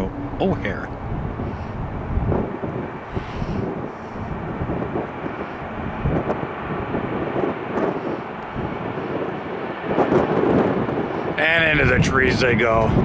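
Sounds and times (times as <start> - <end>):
jet engines roaring at takeoff: 0.0 - 13.0.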